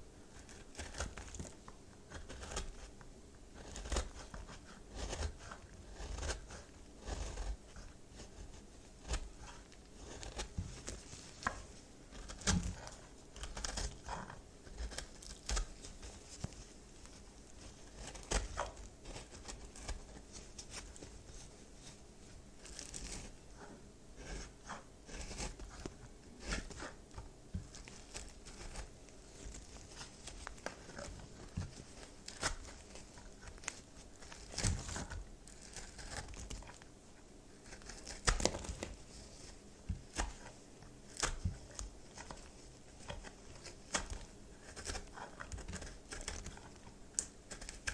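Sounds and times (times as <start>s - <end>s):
soap crunching and crackling: 0.4s - 21.3s, 24.2s - 36.9s, 37.6s - 47.9s.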